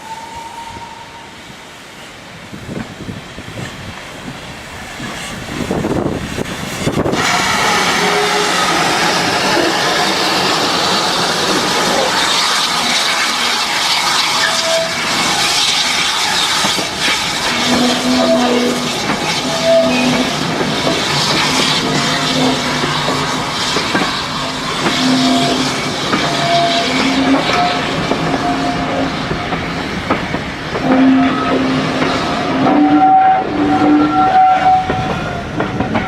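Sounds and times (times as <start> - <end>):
train passing: 0.0 - 36.0.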